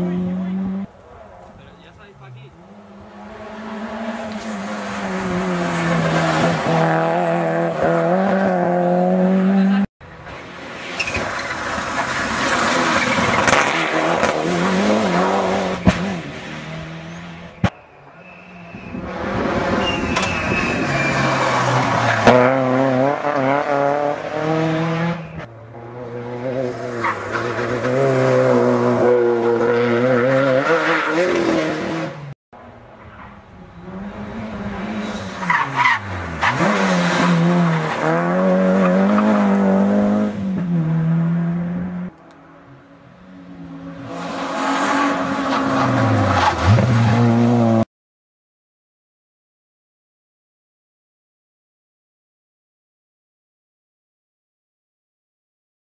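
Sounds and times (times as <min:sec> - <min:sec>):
rally car engines revving: 0:00.0 - 0:47.8.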